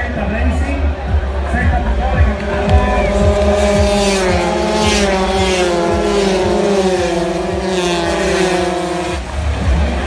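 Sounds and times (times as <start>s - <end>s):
scooter engines revving high: 0.8s - 10.0s.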